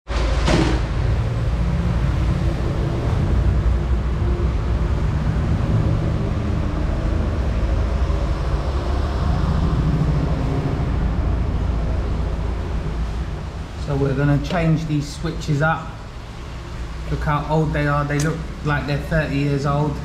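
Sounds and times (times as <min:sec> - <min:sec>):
low rumble of running vehicle: 0:00.1 - 0:20.0.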